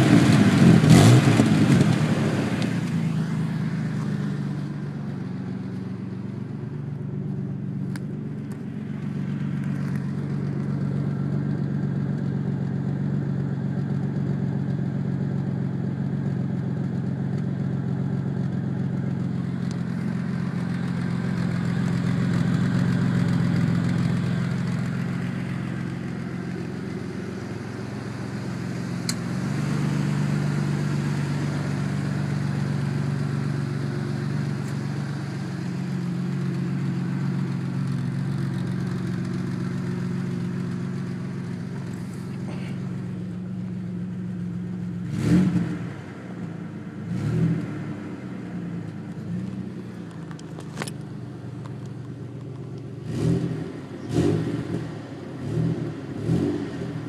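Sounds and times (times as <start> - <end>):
truck engine idling with loud exhaust: 0.0 - 57.0.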